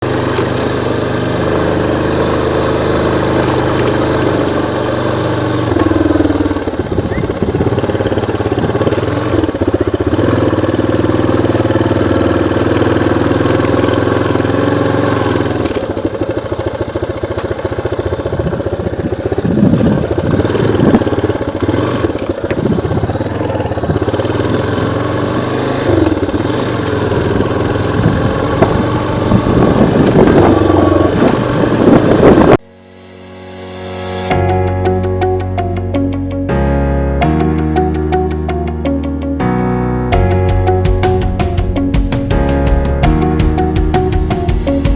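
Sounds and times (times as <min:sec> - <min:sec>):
motorcycle engine revving: 0:00.0 - 0:32.7, 0:40.1 - 0:44.9.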